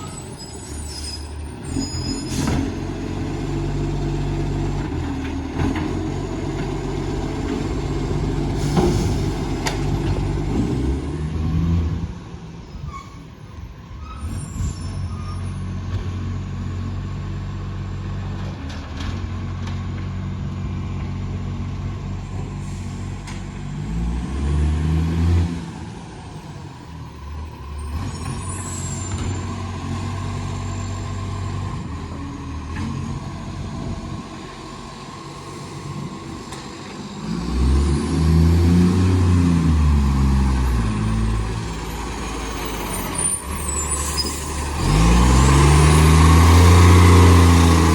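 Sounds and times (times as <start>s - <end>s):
diesel truck engine revving: 0.0s - 12.2s, 14.2s - 47.9s.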